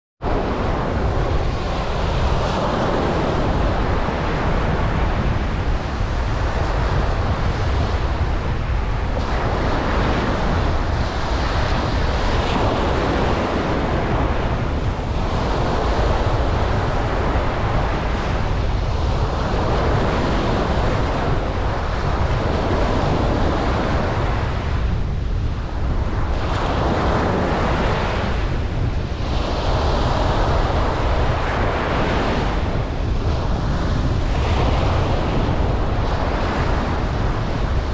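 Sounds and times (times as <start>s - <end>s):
ocean waves breaking: 0.2s - 37.9s
wind rumble on microphone: 0.2s - 37.9s.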